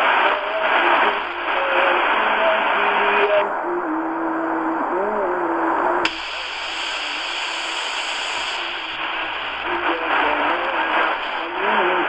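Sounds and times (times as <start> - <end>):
faint radio station audio: 0.0 - 12.0
radio static hiss: 0.0 - 12.0.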